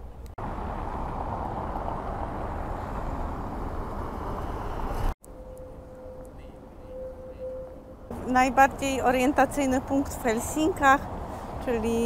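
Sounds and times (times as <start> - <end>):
traffic rush: 0.0 - 12.0.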